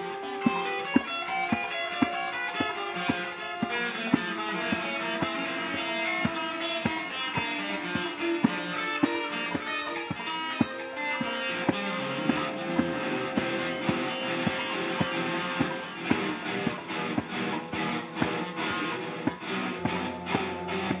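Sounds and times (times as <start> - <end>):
guitar: 0.0 - 21.0
steady beat: 0.0 - 21.0.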